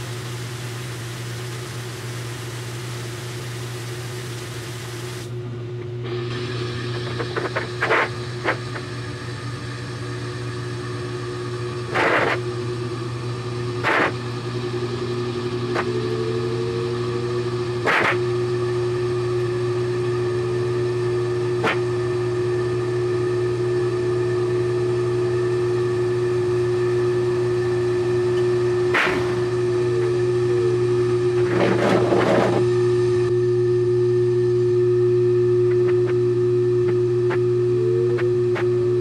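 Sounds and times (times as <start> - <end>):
washing machine motor hum: 0.0 - 39.0.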